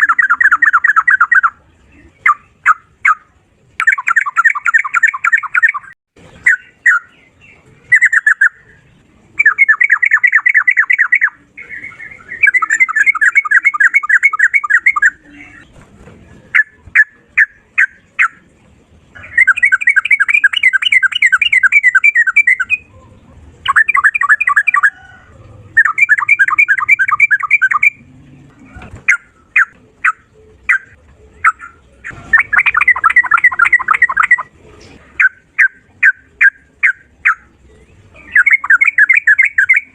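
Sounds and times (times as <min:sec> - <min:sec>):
bulbul singing rapid runs: 0:02.2 - 0:15.8, 0:16.4 - 0:22.9, 0:23.6 - 0:28.1, 0:29.0 - 0:34.6, 0:35.2 - 0:39.9.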